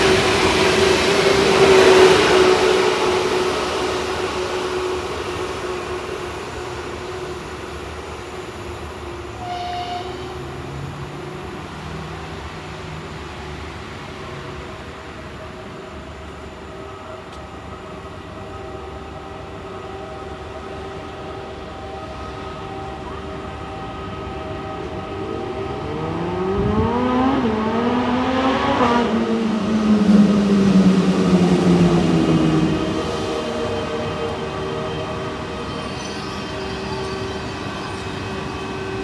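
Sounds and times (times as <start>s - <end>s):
train passing with whine: 0.0s - 39.0s.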